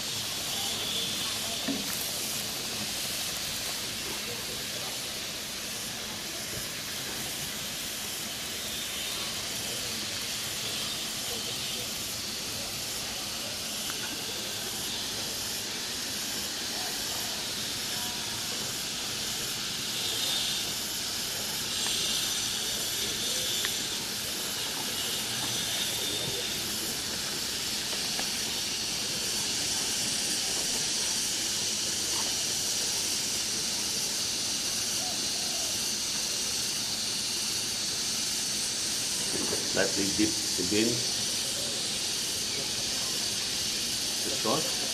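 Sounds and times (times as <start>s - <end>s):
meat sizzling on a grill: 0.0s - 44.9s.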